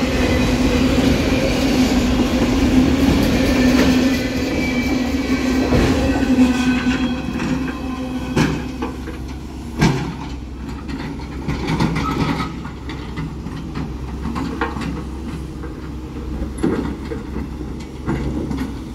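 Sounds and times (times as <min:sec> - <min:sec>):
freight train wheels clattering: 0:00.0 - 0:18.9.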